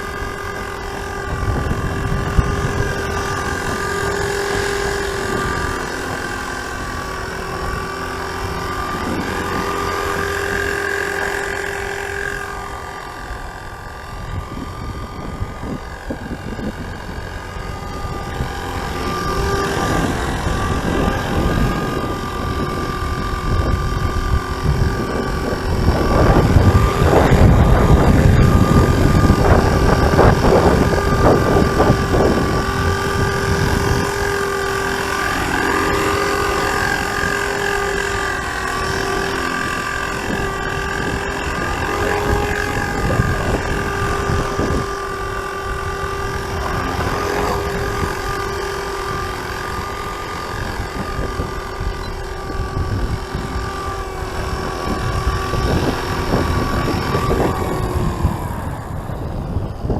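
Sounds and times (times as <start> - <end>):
model helicopter motor whine: 0.0 - 59.9
wind gusting on microphone: 0.0 - 59.9.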